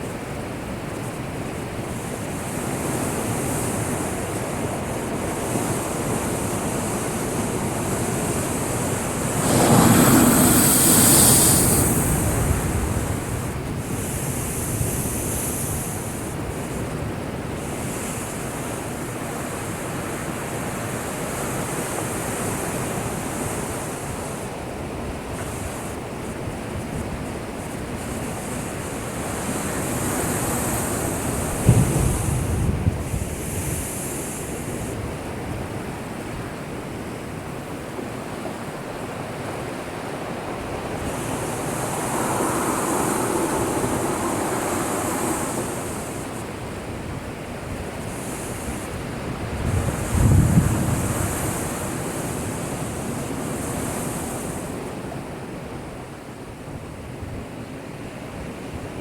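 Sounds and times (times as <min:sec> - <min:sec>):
heavy surf crashing: 0:01.4 - 0:59.0.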